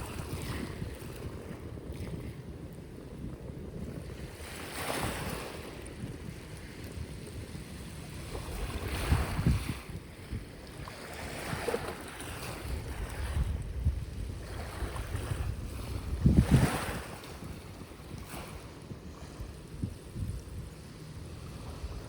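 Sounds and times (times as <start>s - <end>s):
ocean waves washing ashore: 0.0s - 22.0s
wind on microphone: 0.0s - 22.0s.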